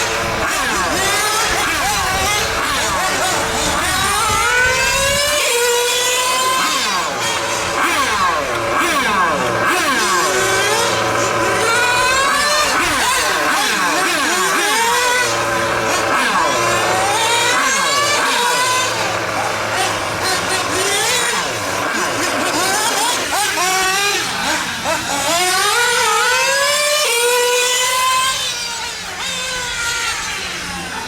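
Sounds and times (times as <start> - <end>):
rc car engines revving: 0.0 - 31.0.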